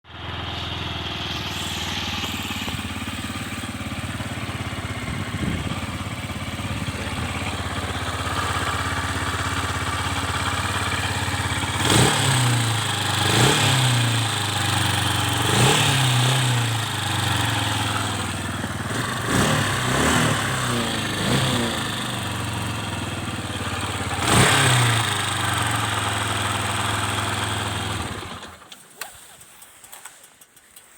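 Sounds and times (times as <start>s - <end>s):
engine idling and revving: 0.0s - 28.7s.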